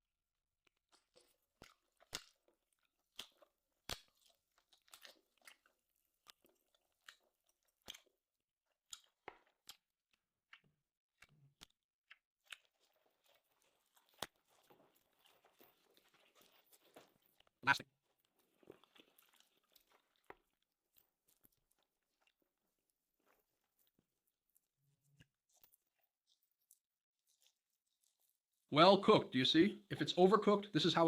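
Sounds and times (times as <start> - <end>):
person chewing: 0.6 - 28.7.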